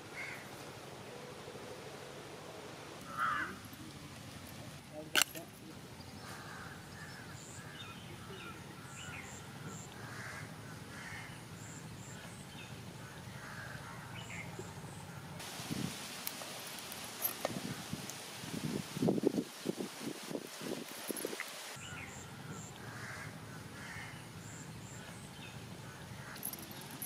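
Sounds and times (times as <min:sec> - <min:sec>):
birds calling: 0:00.0 - 0:18.1, 0:20.7 - 0:27.0
outdoor background noise: 0:00.0 - 0:27.0.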